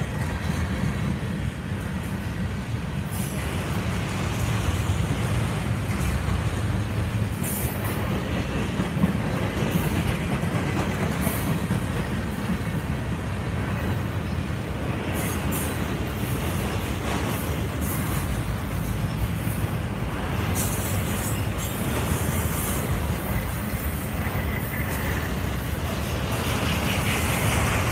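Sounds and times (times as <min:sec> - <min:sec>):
freight train rumbling past: 0:00.0 - 0:27.9.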